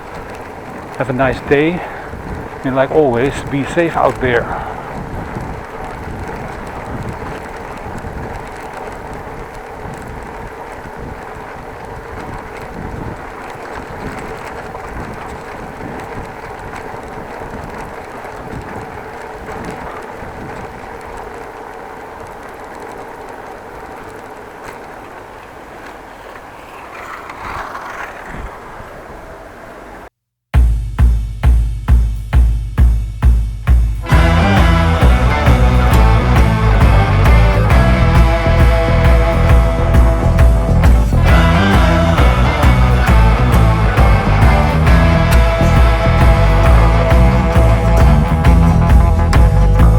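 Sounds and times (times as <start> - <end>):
bicycle steady whine: 0.0 - 30.1, 32.4 - 49.9
wind rumbling on microphone: 0.0 - 30.1, 34.0 - 49.9.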